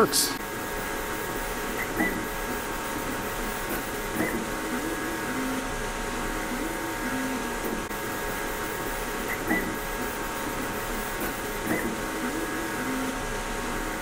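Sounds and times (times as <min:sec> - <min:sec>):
cooling fans hissing: 0:00.0 - 0:14.0.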